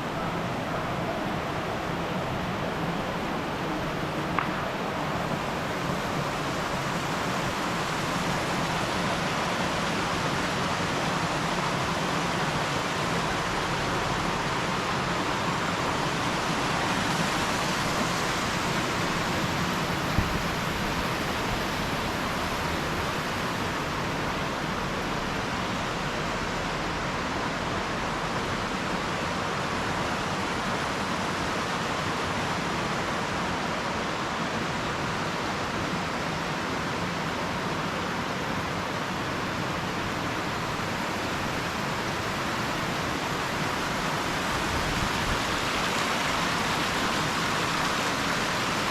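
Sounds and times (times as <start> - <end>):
steady rushing noise: 0.0 - 48.9.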